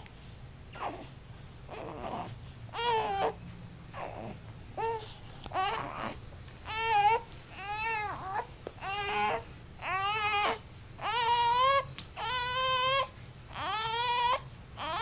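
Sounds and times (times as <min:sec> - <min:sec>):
baby fussing cries: 0:01.7 - 0:03.4, 0:04.0 - 0:15.0.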